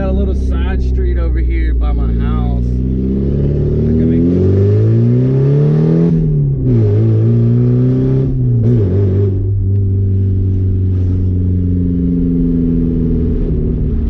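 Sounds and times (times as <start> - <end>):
car engine driving under load: 0.0 - 14.0.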